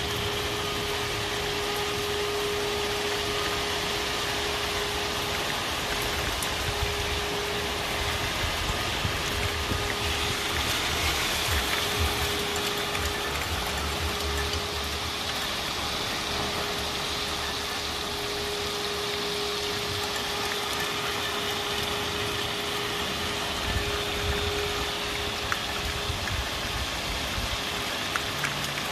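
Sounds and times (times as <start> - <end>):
steady single-pitch alarm tone: 0.0 - 28.1
heavy rain pouring: 0.0 - 28.9.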